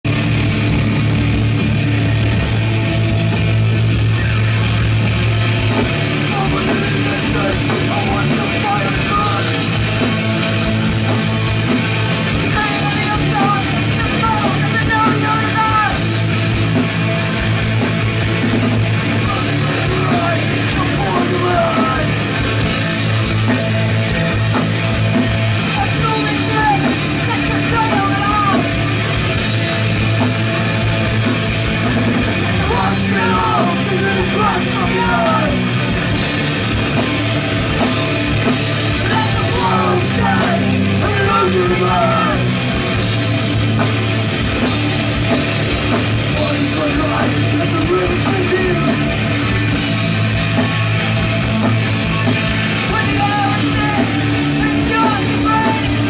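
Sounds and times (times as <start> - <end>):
distorted electric guitars: 0.0 - 56.0
drums: 0.0 - 56.0.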